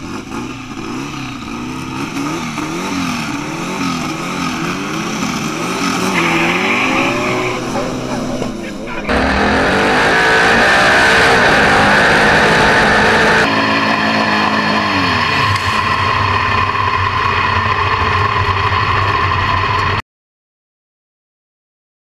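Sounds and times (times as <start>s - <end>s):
racing car engine at full throttle: 0.0s - 20.0s.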